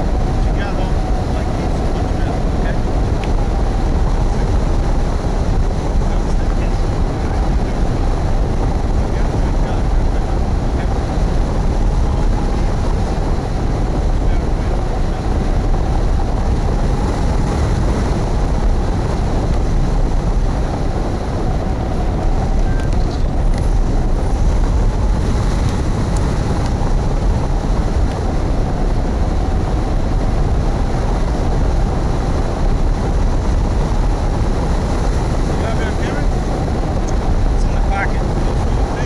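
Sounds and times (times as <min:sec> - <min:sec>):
wind roaring over microphone: 0:00.0 - 0:39.0.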